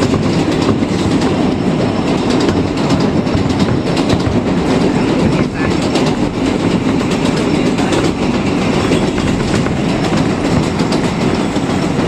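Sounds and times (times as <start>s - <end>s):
train rumbling: 0.0s - 12.0s
wheels clattering over rail joints: 0.0s - 12.0s.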